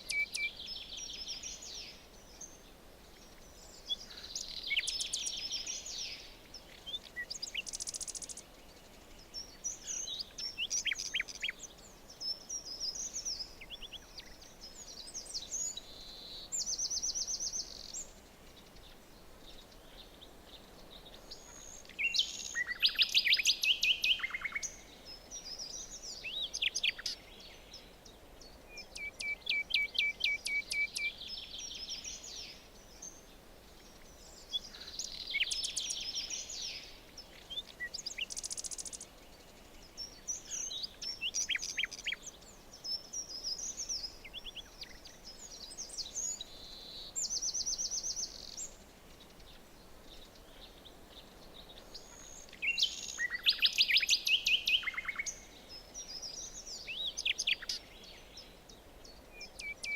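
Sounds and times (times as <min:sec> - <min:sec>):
faint background hiss: 0:00.0 - 0:59.9
songbirds singing and calling: 0:00.0 - 0:59.9.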